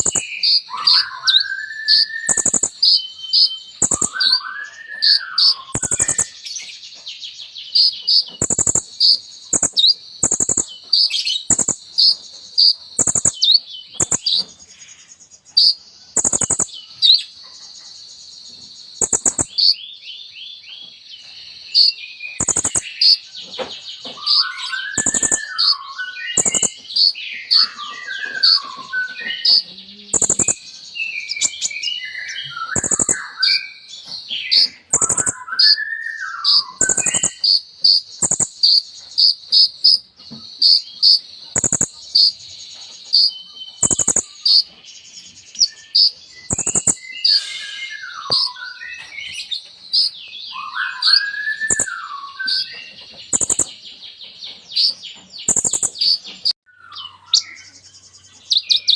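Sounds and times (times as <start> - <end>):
sunbird singing: 0.0 - 58.9.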